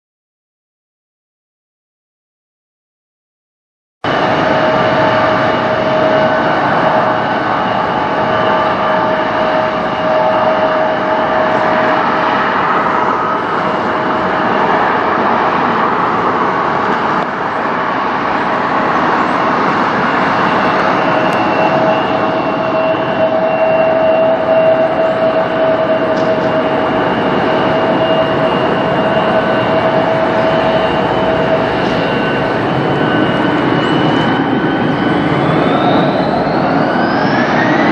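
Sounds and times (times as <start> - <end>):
jet engines whining: 4.0 - 37.9.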